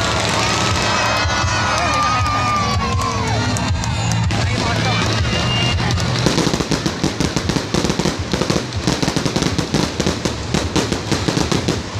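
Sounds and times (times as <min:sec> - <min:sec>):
fireworks crackling: 0:00.0 - 0:11.9
music: 0:00.0 - 0:11.9.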